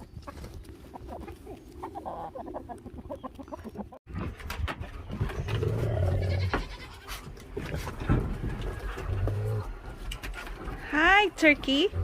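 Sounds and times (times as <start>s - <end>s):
chickens clucking: 0.0s - 10.8s.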